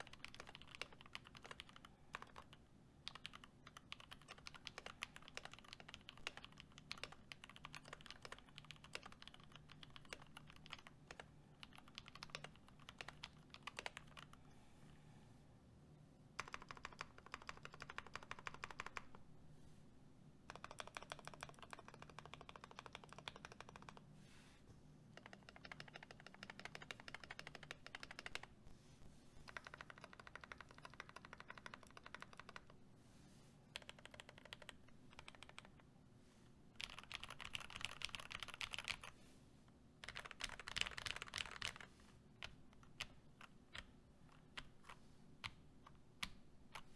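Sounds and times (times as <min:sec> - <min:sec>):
typing on mechanical keyboard: 0:00.0 - 0:14.4, 0:16.4 - 0:19.2, 0:20.5 - 0:24.0, 0:25.2 - 0:28.5, 0:29.4 - 0:32.8, 0:33.7 - 0:35.8, 0:36.8 - 0:39.2, 0:40.0 - 0:46.9.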